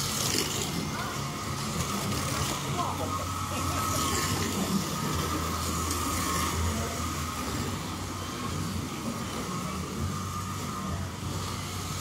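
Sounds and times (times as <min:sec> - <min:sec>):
slot car motors whining: 0:00.0 - 0:12.0.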